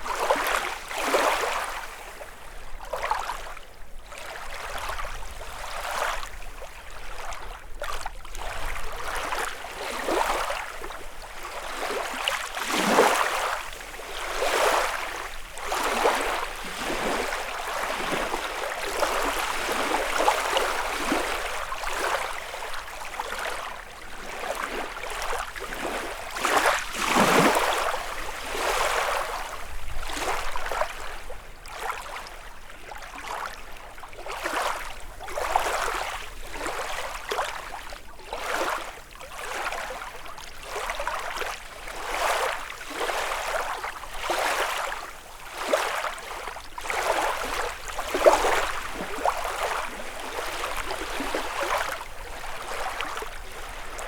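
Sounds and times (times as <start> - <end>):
lake waves lapping against shore: 0.0 - 54.0.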